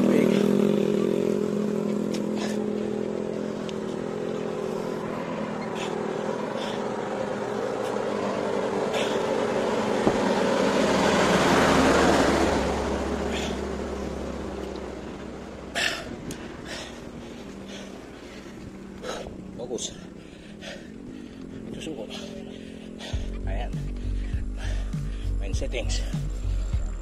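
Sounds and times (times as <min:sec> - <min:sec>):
heavy truck passing by: 0:00.0 - 0:27.0.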